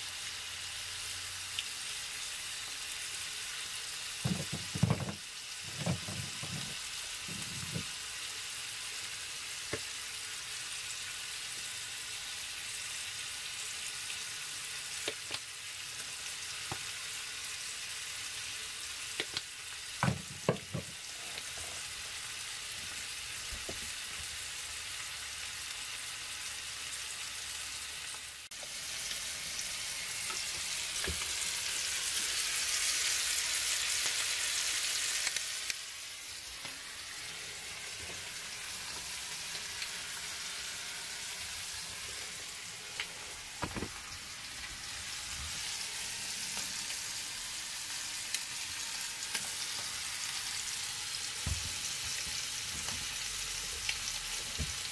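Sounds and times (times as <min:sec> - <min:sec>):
chicken sizzling in a frying pan: 0:00.0 - 0:54.9.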